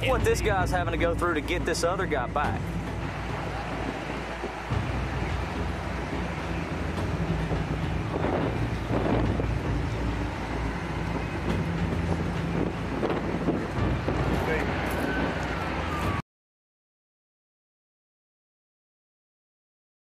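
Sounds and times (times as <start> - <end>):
low engine-like hum: 0.0 - 16.2
rushing noise: 0.0 - 16.2.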